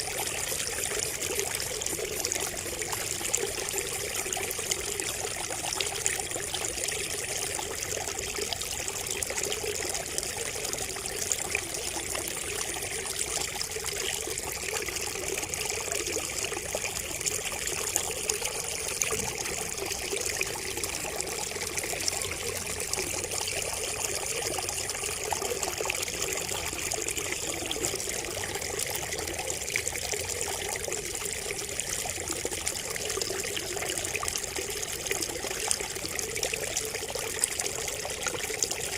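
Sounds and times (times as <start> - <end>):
water trickling from bamboo spout: 0.0 - 38.9.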